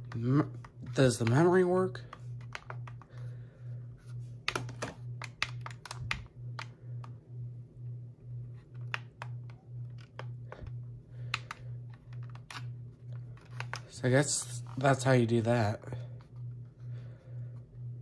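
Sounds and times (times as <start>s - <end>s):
pulsing low hum: 0.0s - 18.0s.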